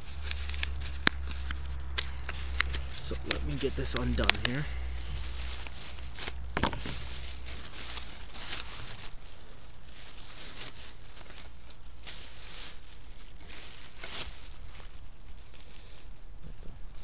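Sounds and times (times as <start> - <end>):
plastic bag crinkling and tearing: 0.0 - 17.0
steady low rumble: 0.0 - 17.0.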